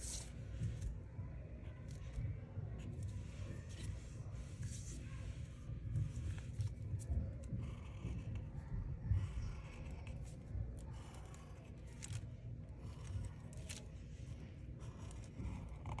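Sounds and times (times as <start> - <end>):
marker scratching on paper: 0.0 - 1.0, 1.6 - 16.0
low rumble of paper on table: 0.0 - 16.0.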